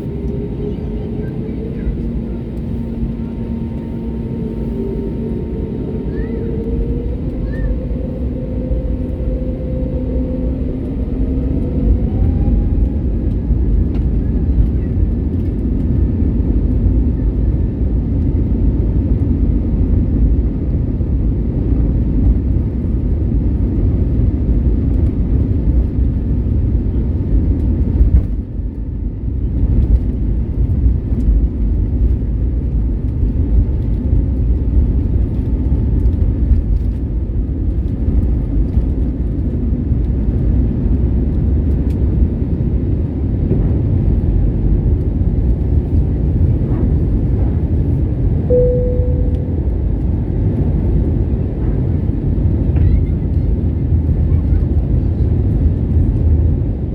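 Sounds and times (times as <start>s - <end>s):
jet engine roar in cabin: 0.0s - 56.9s.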